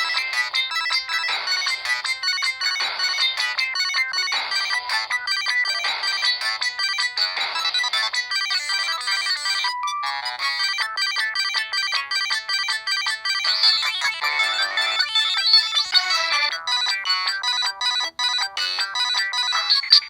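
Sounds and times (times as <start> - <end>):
synthesized ringtone melody: 0.0 - 20.0.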